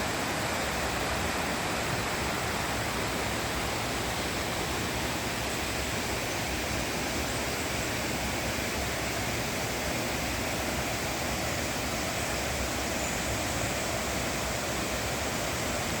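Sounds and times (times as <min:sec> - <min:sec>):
flowing water roar: 0:00.0 - 0:16.0.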